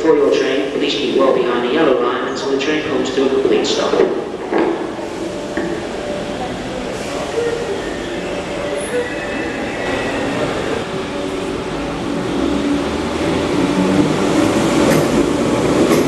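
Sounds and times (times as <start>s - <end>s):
electric train rumble: 2.6s - 16.0s.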